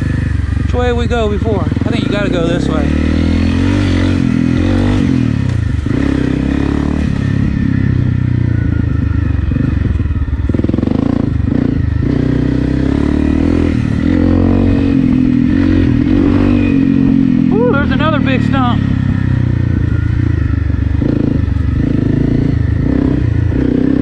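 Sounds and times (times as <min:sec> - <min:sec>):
dirt bike engine: 0:00.0 - 0:24.0.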